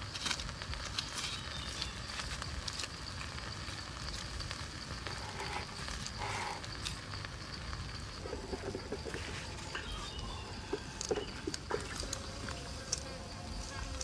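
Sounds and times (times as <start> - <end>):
charcoal embers crackling: 0.0 - 14.0
high insect-like hum: 0.0 - 14.0.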